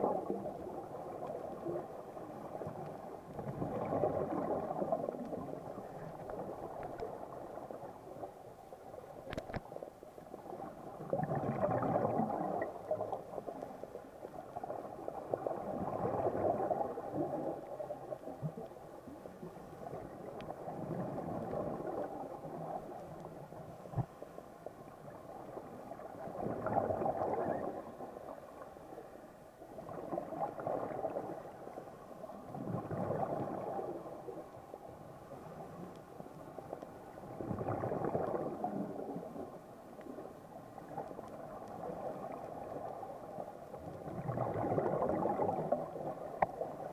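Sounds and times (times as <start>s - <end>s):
underwater bubbles gurgling: 0.0s - 46.9s.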